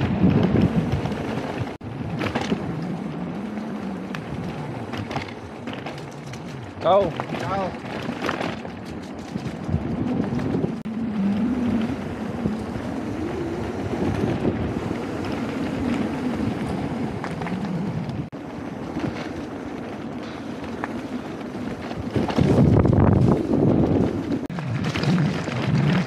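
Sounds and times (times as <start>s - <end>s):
wavering low rumble: 0.0s - 26.0s
wind rushing over microphone: 0.0s - 26.0s.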